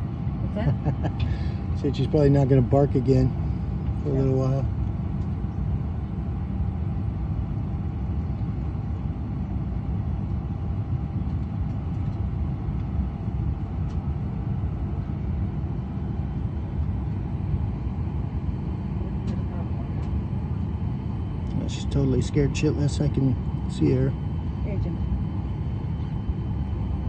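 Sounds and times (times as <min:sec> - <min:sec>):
airliner cabin drone: 0:00.0 - 0:27.0
faint steady hum: 0:00.0 - 0:27.0.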